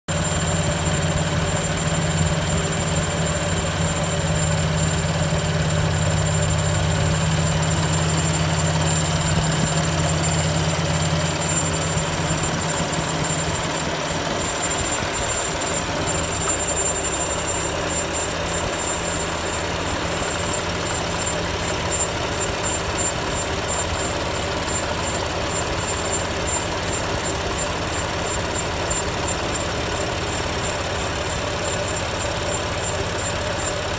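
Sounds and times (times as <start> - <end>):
car engine idling: 0.1 - 33.9
high-pitched squeak: 0.1 - 33.9.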